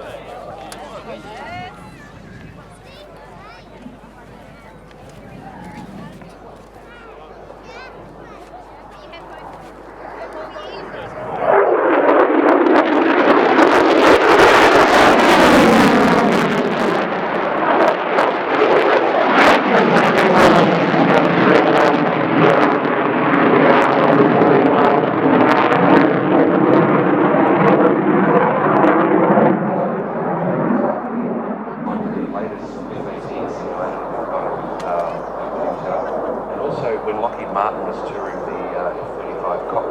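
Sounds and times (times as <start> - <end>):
jet engine roar: 0.0 - 39.9.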